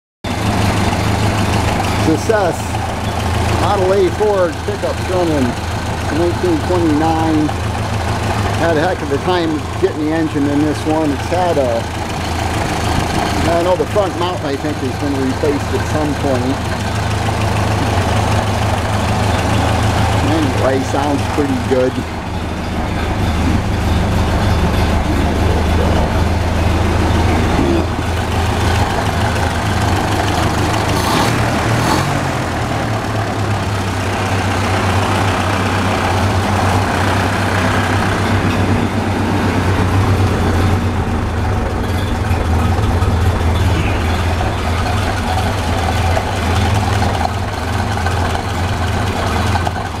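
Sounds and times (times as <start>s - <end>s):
car engine idling: 0.2s - 50.0s.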